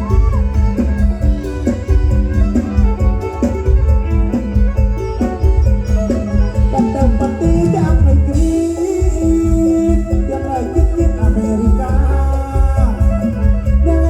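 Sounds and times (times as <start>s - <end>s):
folk dance music melody: 0.0s - 14.0s
heavy drum and bass beat: 0.0s - 14.0s.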